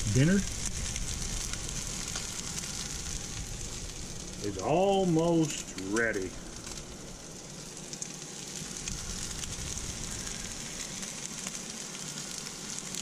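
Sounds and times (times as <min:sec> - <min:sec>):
patties sizzling in hot oil: 0:00.0 - 0:13.0.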